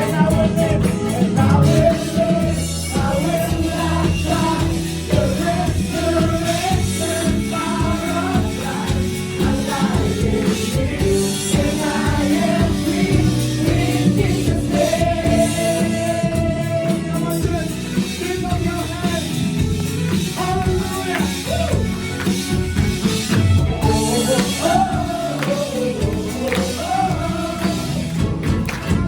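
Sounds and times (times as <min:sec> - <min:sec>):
live worship band with singing: 0:00.0 - 0:29.0.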